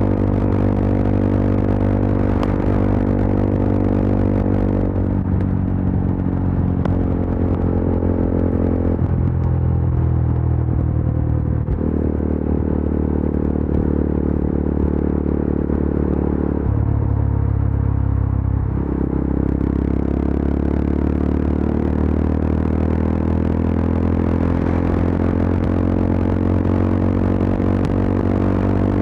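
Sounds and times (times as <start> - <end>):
motorcycle engine and exhaust: 0.0 - 29.0.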